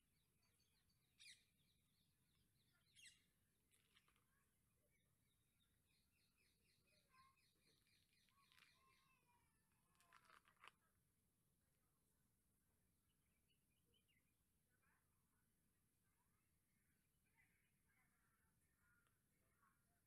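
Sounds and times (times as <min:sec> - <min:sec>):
faint birdsong: 0:00.0 - 0:10.7, 0:11.9 - 0:20.0.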